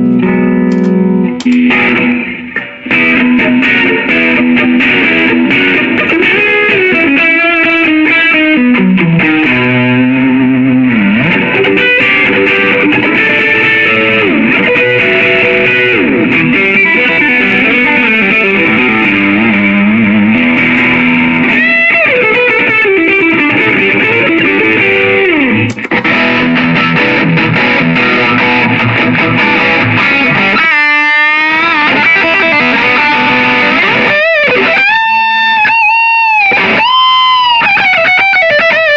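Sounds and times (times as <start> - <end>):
electric guitar melodic lines: 0.0 - 38.9.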